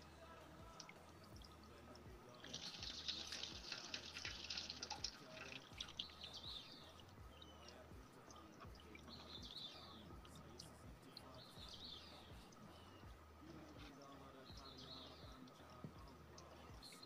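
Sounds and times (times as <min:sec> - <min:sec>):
dry husks rustling and crackling: 0:00.0 - 0:17.0.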